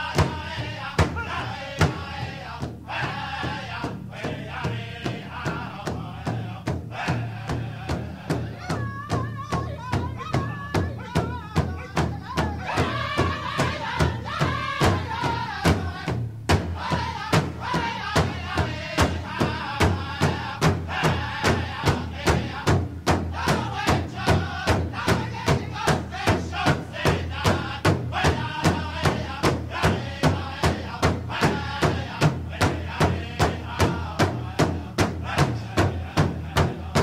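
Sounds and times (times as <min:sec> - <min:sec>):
group chanted singing: 0:00.0 - 0:37.0
steady drumbeat: 0:00.0 - 0:37.0.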